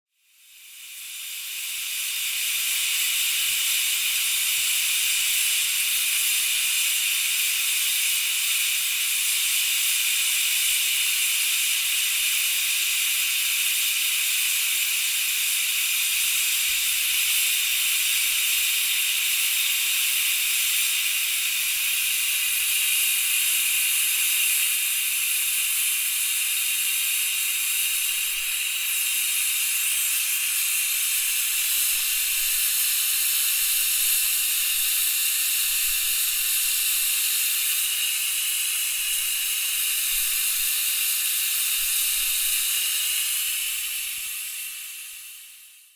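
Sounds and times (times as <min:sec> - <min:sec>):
steam hissing: 0:00.3 - 0:45.9.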